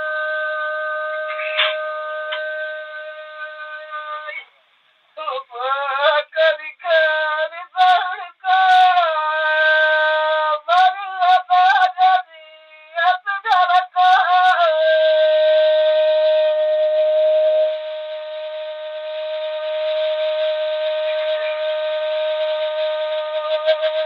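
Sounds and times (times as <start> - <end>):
person singing folk song: 0.0 - 4.6, 5.2 - 24.0.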